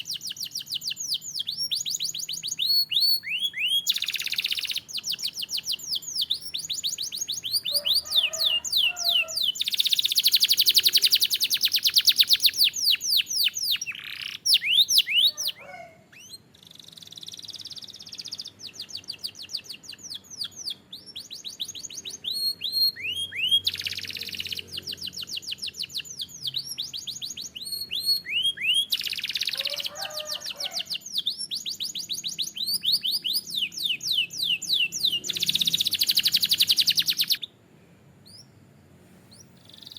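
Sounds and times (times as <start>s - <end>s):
canary singing trills: 0.0s - 37.6s, 38.2s - 38.6s, 39.3s - 39.9s.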